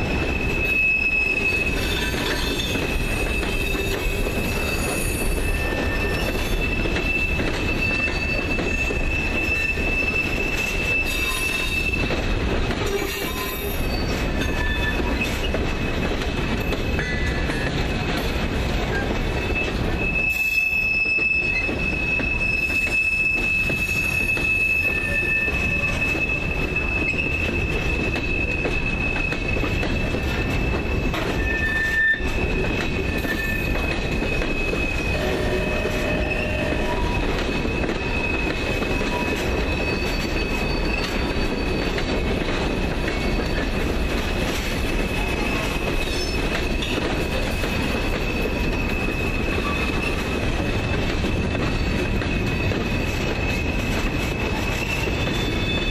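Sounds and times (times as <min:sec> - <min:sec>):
train clank: 0:00.0 - 0:55.9
train wheels rumbling on rail: 0:00.0 - 0:55.9
high-pitched wheel squeal: 0:00.3 - 0:12.2, 0:12.9 - 0:15.9, 0:18.9 - 0:42.3, 0:44.4 - 0:55.9.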